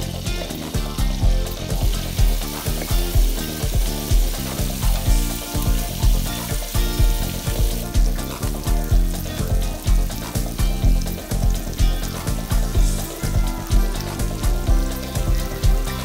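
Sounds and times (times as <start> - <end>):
background music with steady beat: 0.0 - 16.0
paste sizzling in hot oil: 0.0 - 16.0
spatula stirring in pan: 1.5 - 16.0.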